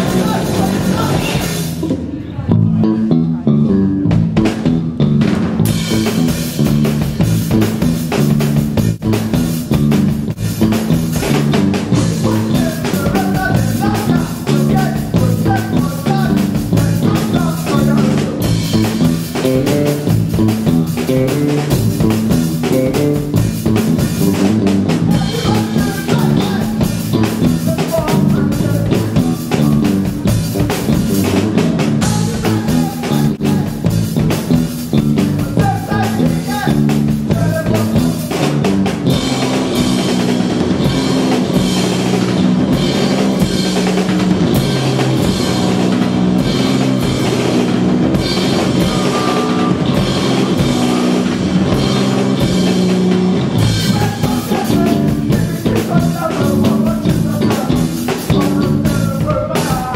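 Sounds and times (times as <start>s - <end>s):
drum kit beat: 0.0s - 2.1s, 3.9s - 59.9s
electric bass: 0.0s - 59.9s
guitar: 0.0s - 59.9s.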